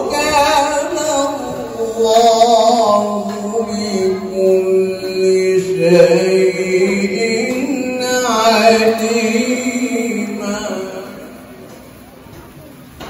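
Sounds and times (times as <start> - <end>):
man reciting through microphone: 0.0 - 11.8.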